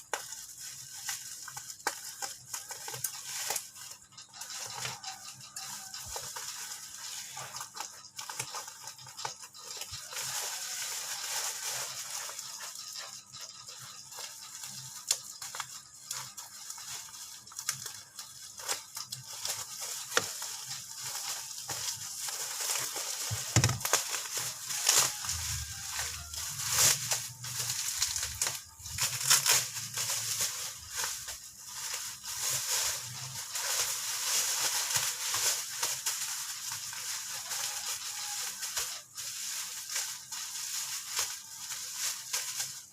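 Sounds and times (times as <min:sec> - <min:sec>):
packaging crinkling and rustling: 0:00.0 - 0:42.9.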